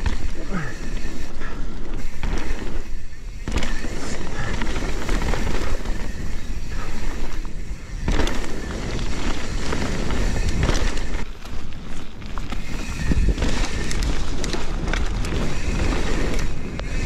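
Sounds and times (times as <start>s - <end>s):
bike rattling over bumps: 0.0s - 17.0s
bike tyres rolling and skidding: 0.0s - 17.0s
wind rumbling on microphone: 0.0s - 17.0s.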